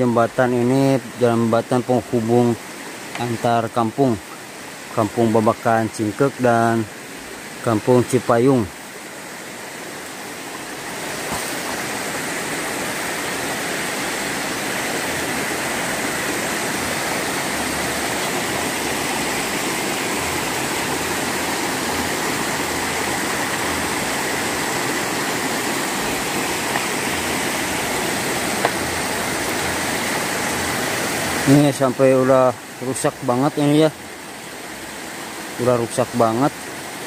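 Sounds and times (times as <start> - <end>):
stream rushing over stones: 0.0 - 37.0.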